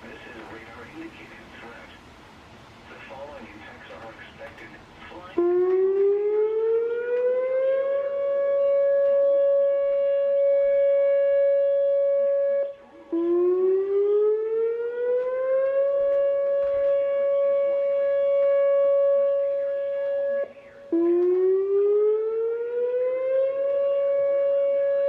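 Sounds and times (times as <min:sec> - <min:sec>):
tornado warning siren: 0:00.0 - 0:25.0.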